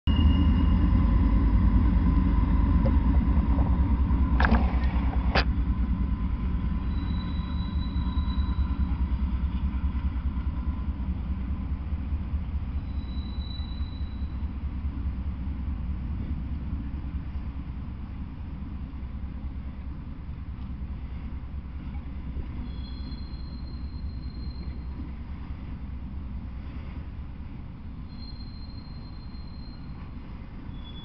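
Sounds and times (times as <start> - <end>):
locomotive engine rumble: 0.0 - 31.0.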